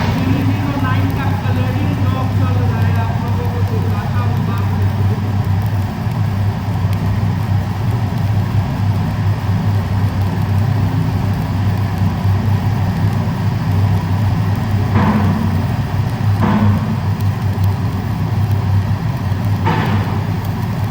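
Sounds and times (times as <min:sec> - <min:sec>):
welding machine humming: 0:00.0 - 0:20.9.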